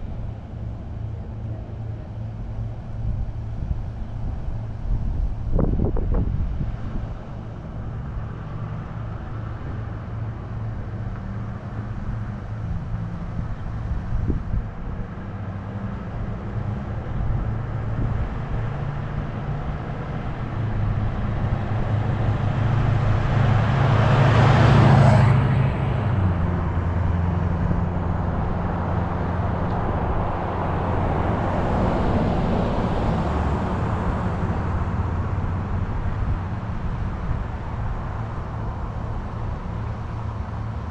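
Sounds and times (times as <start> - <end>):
car engine hum: 0.0 - 40.9
road noise: 0.0 - 40.9
rush of passing noise: 2.4 - 40.9.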